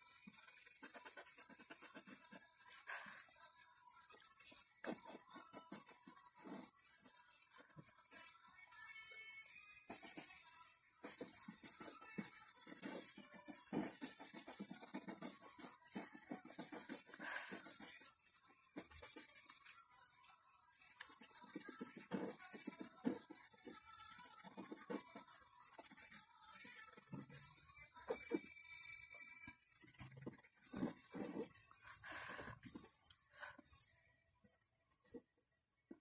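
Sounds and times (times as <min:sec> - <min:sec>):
pencil rubbing on paper: 0:00.0 - 0:08.4, 0:09.9 - 0:28.5, 0:29.1 - 0:33.7.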